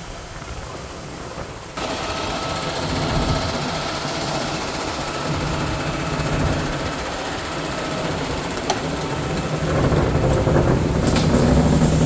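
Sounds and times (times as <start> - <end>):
concrete machinery engine running: 1.7 - 12.0.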